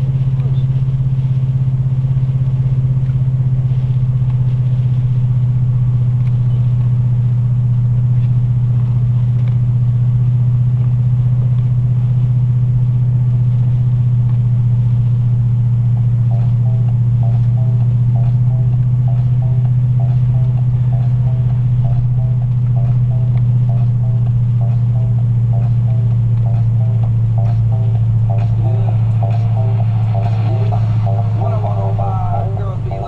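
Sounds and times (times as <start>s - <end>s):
car engine and road noise drone: 0.0s - 33.0s.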